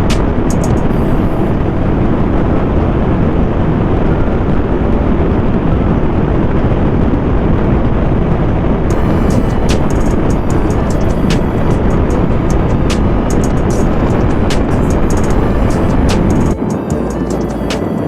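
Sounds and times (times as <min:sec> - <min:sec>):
wind noise over microphone: 0:00.0 - 0:18.0.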